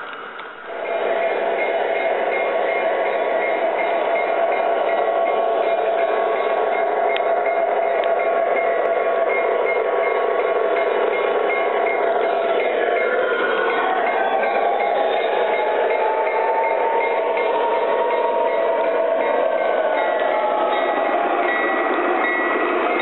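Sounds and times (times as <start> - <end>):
model train humming: 0.0 - 23.0.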